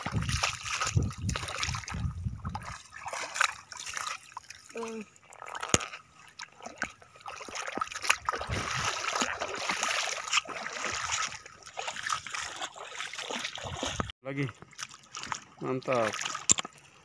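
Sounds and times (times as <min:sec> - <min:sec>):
flip-flop footsteps in wet sand: 0:00.0 - 0:04.5, 0:05.8 - 0:15.5.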